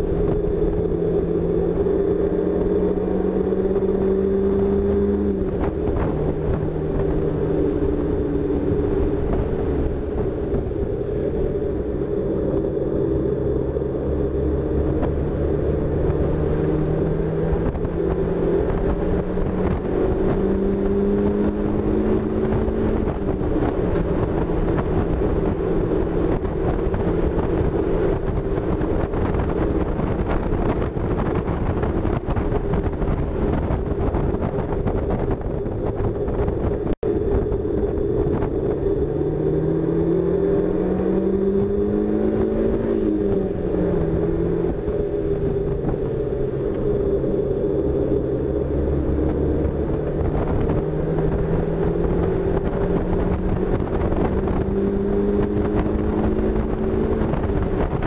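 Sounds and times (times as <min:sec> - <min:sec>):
car engine accelerating: 0:00.0 - 0:58.0
wind noise: 0:00.0 - 0:58.0.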